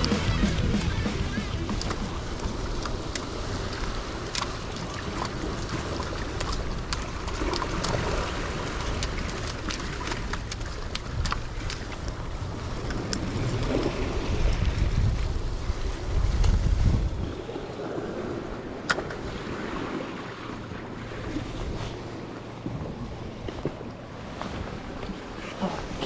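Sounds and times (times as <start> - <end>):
sea waves: 0.0 - 26.0
wind buffeting microphone: 5.1 - 26.0.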